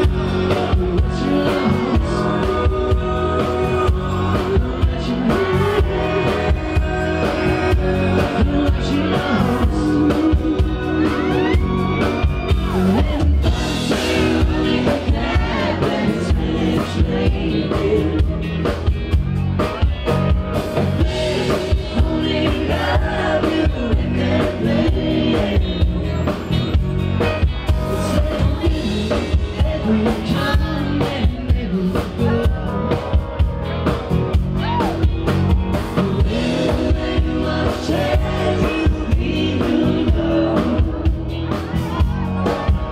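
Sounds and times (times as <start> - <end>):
drum kit: 0.0 - 42.9
electric bass: 0.0 - 42.9
guitar: 0.0 - 42.9
lead singer: 0.0 - 42.9.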